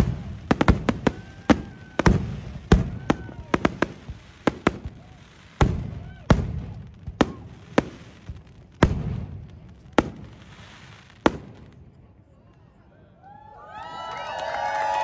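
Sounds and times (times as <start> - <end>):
fireworks bursting: 0.0 - 12.1.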